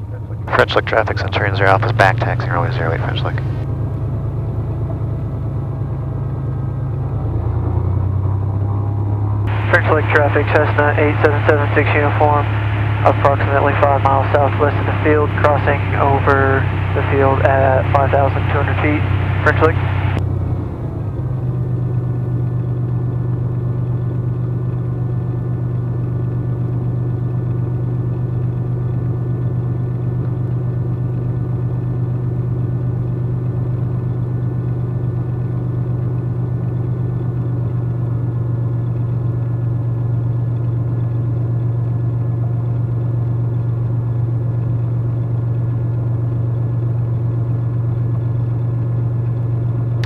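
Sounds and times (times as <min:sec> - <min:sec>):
plane engine droning: 0:00.0 - 0:50.0.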